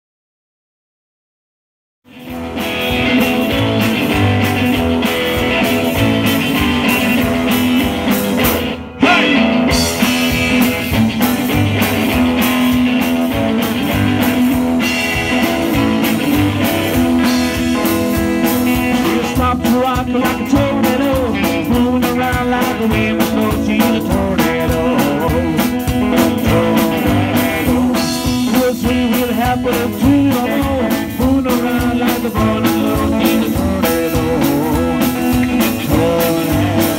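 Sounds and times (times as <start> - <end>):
hollow-body guitar: 2.0 - 36.9
drum kit: 2.1 - 36.9
electric guitar: 2.1 - 36.9
upright double bass: 2.2 - 36.9.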